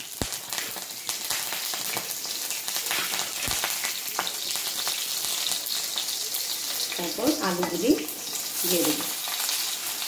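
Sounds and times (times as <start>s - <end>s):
chillies sizzling in hot oil: 0.0s - 10.0s.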